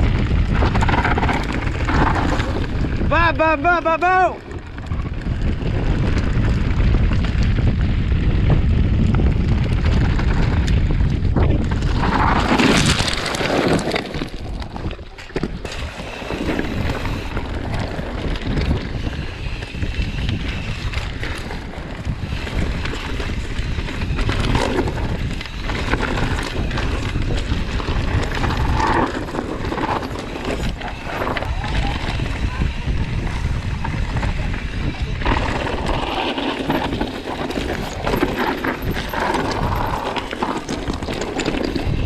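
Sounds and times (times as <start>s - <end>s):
bike rumbling and rattling on trail: 0.0s - 42.0s
wind buffeting microphone: 0.0s - 42.0s.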